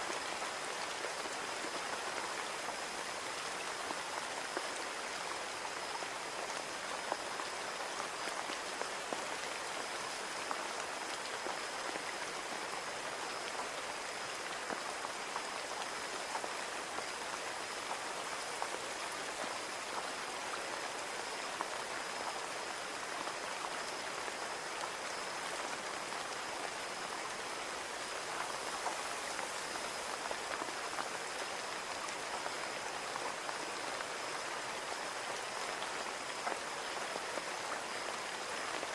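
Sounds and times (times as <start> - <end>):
rain on a window: 0.0 - 38.9.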